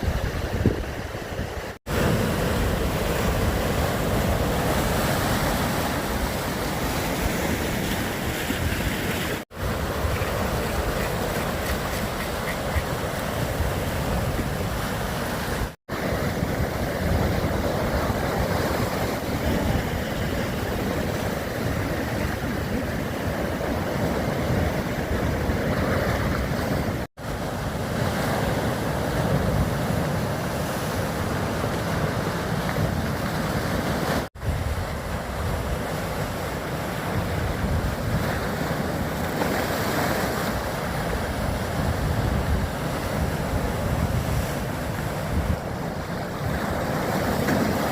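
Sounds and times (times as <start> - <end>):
waves washing: 0.0 - 47.9
wind noise on microphone: 0.0 - 47.9.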